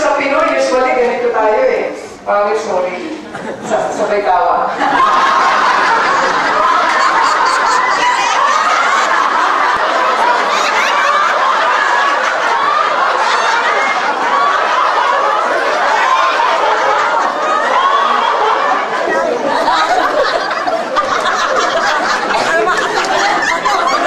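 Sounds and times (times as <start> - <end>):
large group laughing: 4.7 - 24.0.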